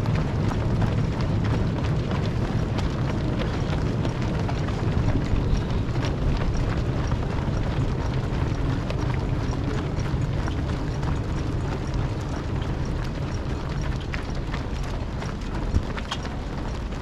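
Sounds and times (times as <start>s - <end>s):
runners' footsteps on road: 0.0s - 17.0s
steady low rumble: 0.0s - 17.0s.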